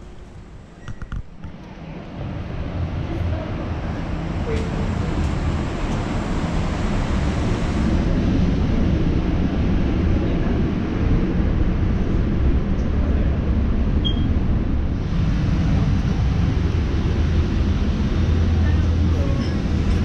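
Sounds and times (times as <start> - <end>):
aircraft and machinery roar: 0.0 - 20.0.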